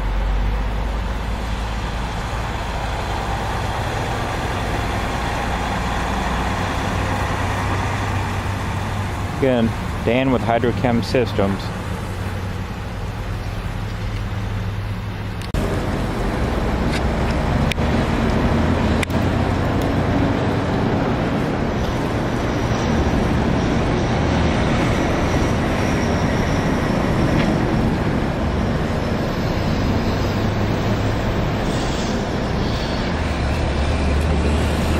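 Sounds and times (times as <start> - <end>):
truck wash rushing: 0.0 - 34.9.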